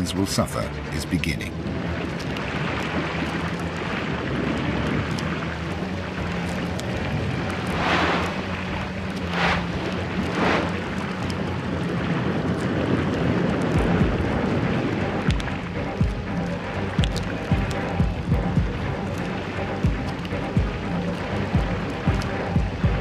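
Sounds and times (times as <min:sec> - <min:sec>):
churning sea water: 0:00.0 - 0:23.0
water rushes: 0:00.0 - 0:23.0
low hum: 0:01.6 - 0:23.0.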